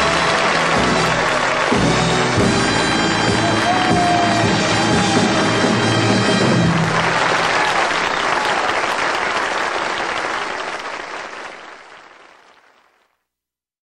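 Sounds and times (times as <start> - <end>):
crowd applauding: 0.0 - 13.1.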